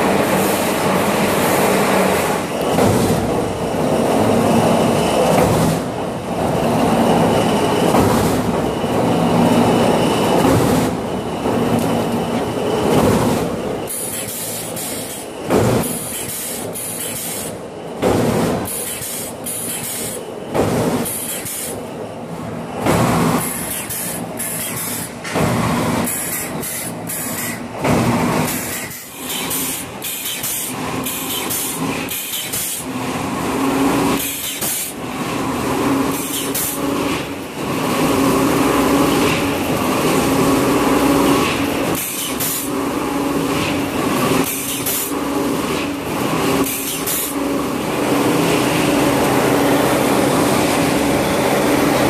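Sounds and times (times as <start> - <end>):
log debarker machine hum: 0.0 - 52.0.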